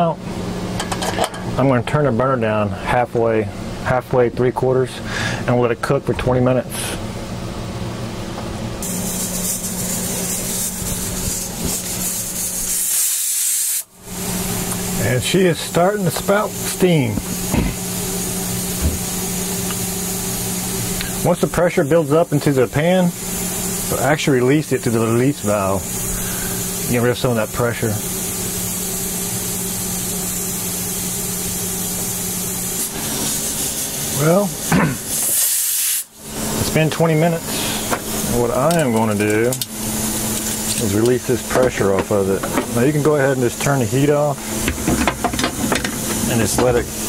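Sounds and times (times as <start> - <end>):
steady low hum: 0.0 - 13.0, 13.9 - 35.4, 36.1 - 47.0
pressure cooker steam hissing: 8.8 - 47.0.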